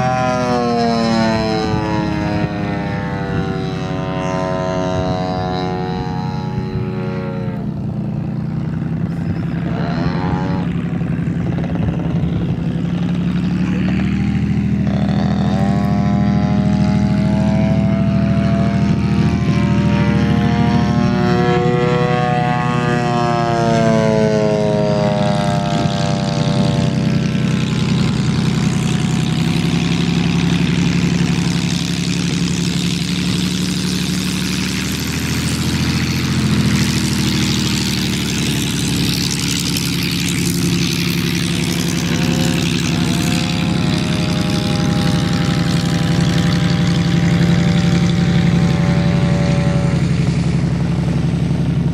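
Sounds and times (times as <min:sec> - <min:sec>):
propeller plane engine overhead: 0:00.0 - 0:51.9.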